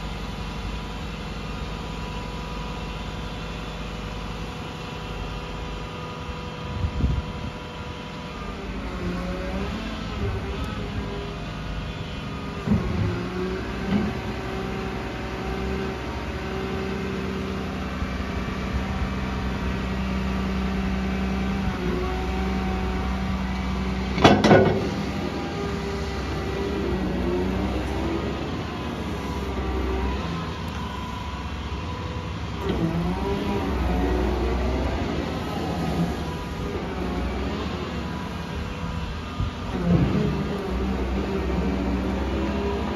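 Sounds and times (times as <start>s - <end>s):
engine humming: 0.0s - 42.9s
hydraulic whine: 0.0s - 42.9s.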